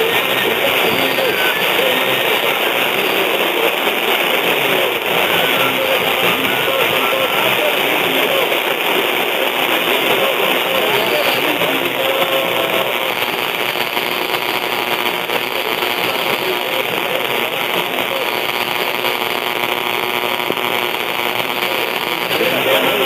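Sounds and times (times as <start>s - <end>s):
faint radio station audio: 0.0s - 23.0s
radio static: 0.0s - 23.0s.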